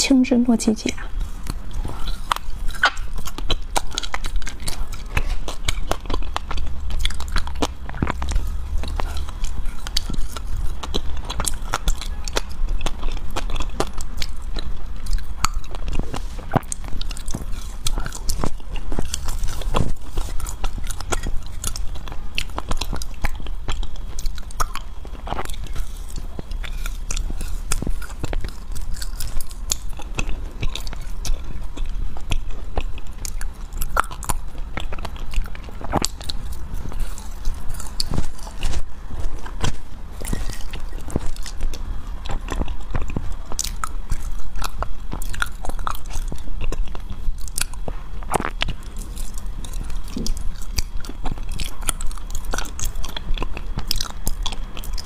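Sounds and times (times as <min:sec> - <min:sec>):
biting and chewing sweet: 0:00.0 - 0:55.0
small crackling crunches: 0:00.8 - 0:55.0.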